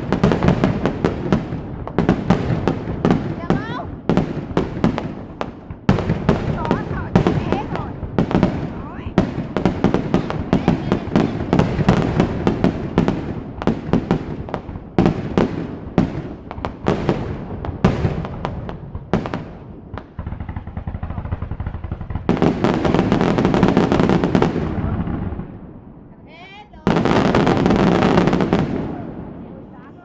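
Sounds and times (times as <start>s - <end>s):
fireworks bangs and booms: 0.0s - 30.0s
fireworks crackling salvo: 0.0s - 30.0s
fireworks rumble: 0.0s - 30.0s.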